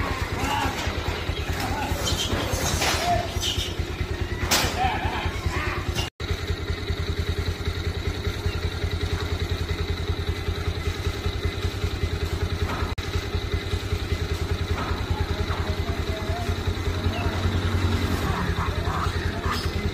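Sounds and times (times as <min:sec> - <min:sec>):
small engine idling: 0:00.0 - 0:19.9.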